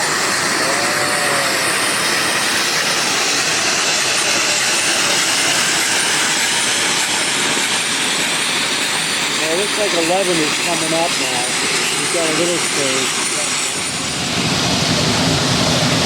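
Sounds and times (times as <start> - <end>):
steam locomotive running past: 0.0 - 16.0.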